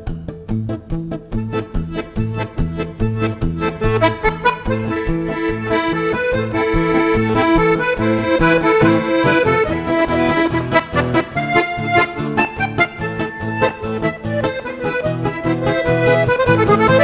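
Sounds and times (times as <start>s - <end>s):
pulsing bass beat: 0.0s - 14.0s
accordion folk tune: 0.0s - 17.0s.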